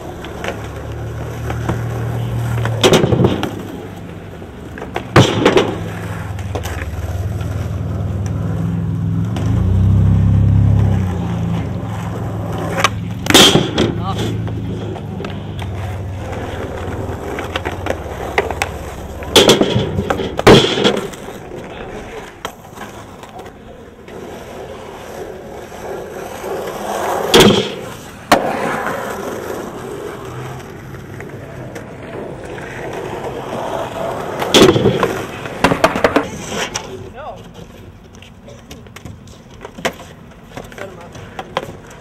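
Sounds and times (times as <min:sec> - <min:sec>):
skateboard clacks and landings: 0:00.0 - 0:42.0
skateboard wheels rolling on asphalt: 0:00.0 - 0:42.0.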